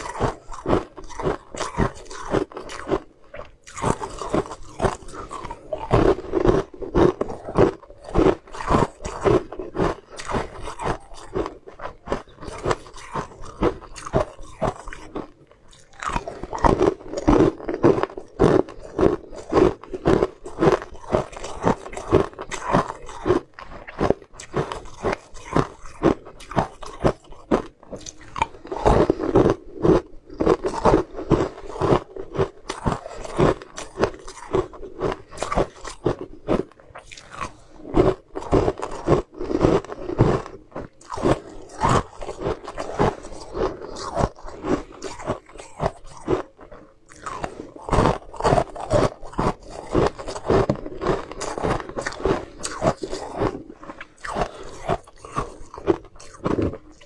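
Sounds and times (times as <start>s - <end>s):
crunching hard sweets: 0.0s - 57.0s.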